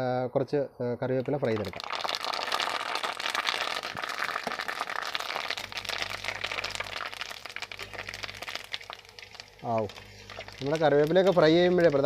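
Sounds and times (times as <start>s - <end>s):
leaves sizzling in hot oil: 1.5s - 12.0s.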